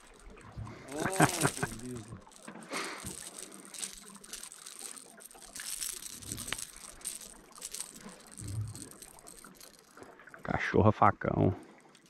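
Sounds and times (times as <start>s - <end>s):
quiet water sounds: 0.0s - 12.0s.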